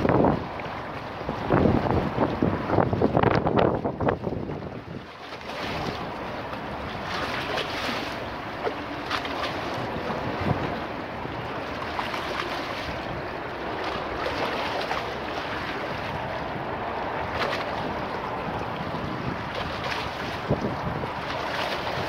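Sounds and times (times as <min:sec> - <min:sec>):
waves splashing against stone steps: 0:00.0 - 0:22.0.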